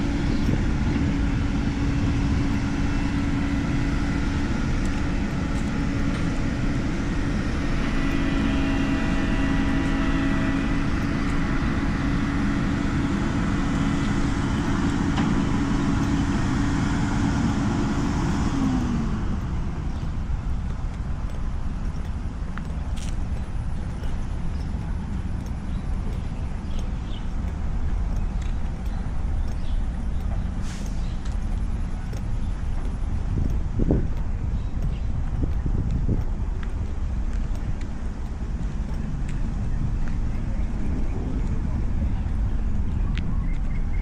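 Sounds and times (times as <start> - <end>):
vehicle passing: 0.0 - 43.4.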